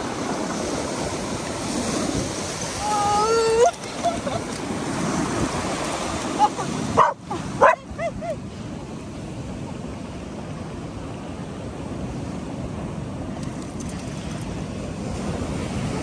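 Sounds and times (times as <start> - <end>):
sea surf washing over concrete: 0.0 - 16.0
wind: 0.0 - 16.0.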